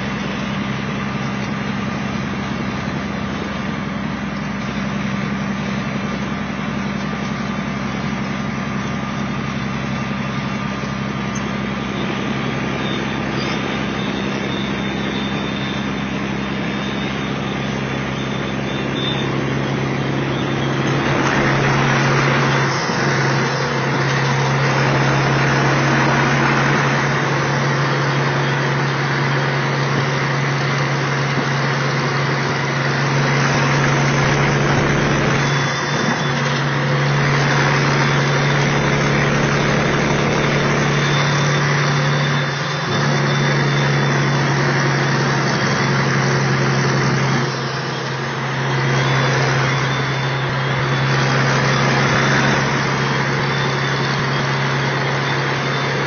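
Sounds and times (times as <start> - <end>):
diesel truck engine hum: 0.0 - 56.0
road and tyre noise: 0.0 - 56.0.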